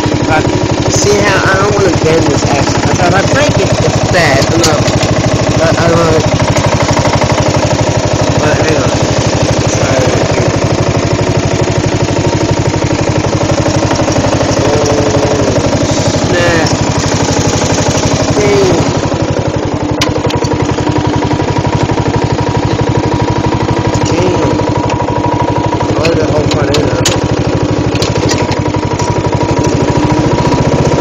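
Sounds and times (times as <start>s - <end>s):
riding lawn mower engine running: 0.0s - 31.0s.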